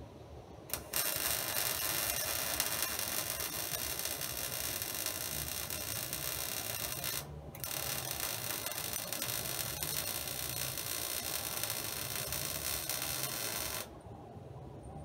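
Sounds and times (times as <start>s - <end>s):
welding arc crackling hiss: 0.7s - 13.9s.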